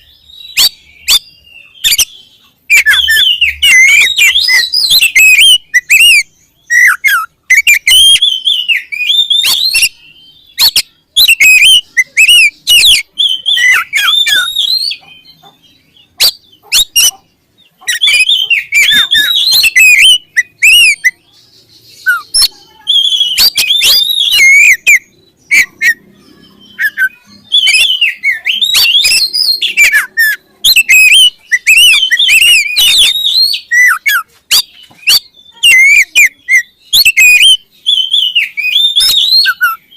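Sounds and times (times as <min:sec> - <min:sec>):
bird singing whistled phrases: 0:00.0 - 0:17.2, 0:17.8 - 0:39.9.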